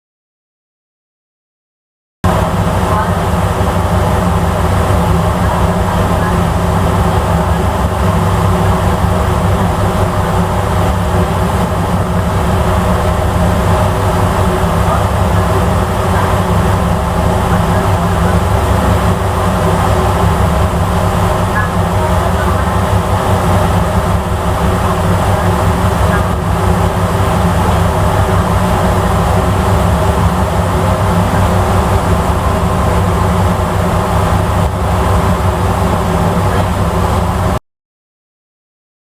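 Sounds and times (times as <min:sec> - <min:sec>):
ferry engines droning: 0:02.2 - 0:37.6
rush of wind and water: 0:02.3 - 0:37.6.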